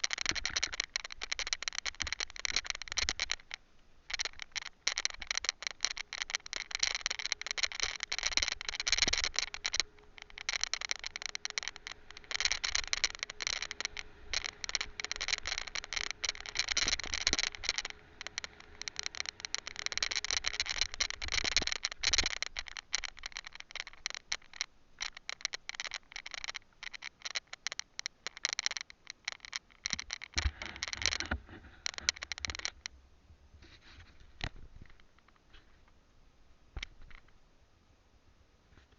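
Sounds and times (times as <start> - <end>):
camera rattling in mount: 0.0 - 32.9.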